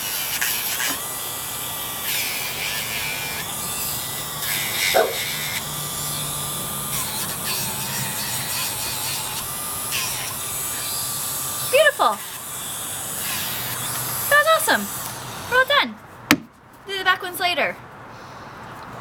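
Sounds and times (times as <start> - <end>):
rotary tool grinding nails: 0.0 - 15.7.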